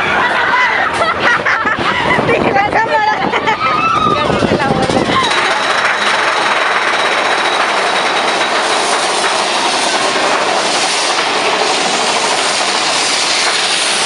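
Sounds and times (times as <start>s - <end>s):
roller coaster rattling on track: 0.0s - 14.0s.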